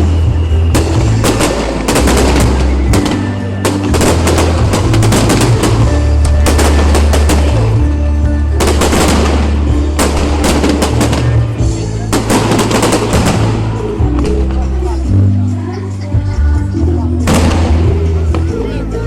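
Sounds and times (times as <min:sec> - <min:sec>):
fireworks cracking and banging: 0:00.0 - 0:14.8, 0:17.2 - 0:18.5
loud music with heavy bass: 0:00.0 - 0:15.5.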